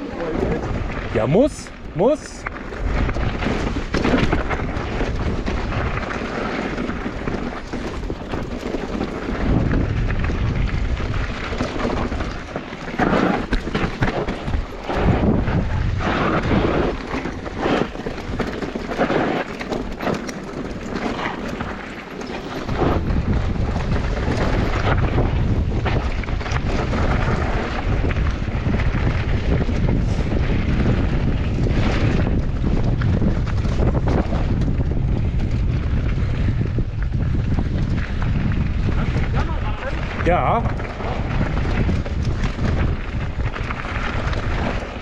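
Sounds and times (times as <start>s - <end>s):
bike tyres on dirt: 0.0s - 45.0s
wind rumbling on microphone: 0.0s - 45.0s
bike frame rattling: 2.5s - 45.0s.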